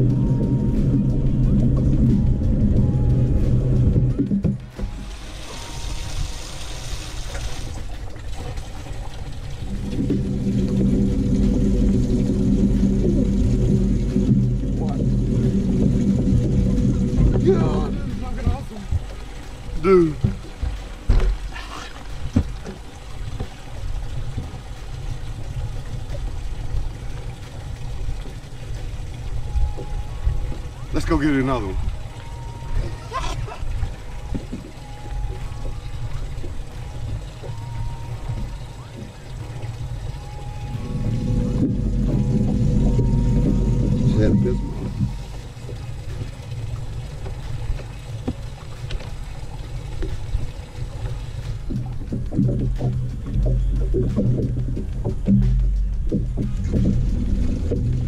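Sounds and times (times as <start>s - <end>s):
wind buffeting microphone: 0.0s - 21.5s, 22.1s - 58.0s
fishing boat engine rumble: 0.0s - 58.0s.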